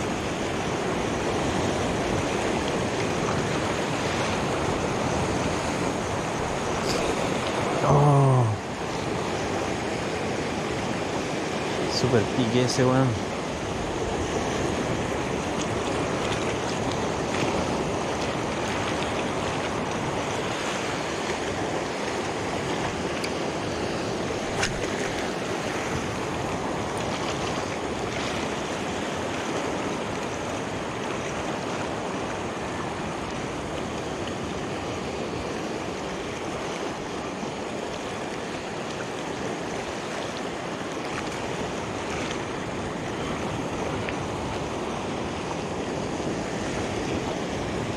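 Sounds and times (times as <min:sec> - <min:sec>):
waves washing over rocks: 0:00.0 - 0:47.9.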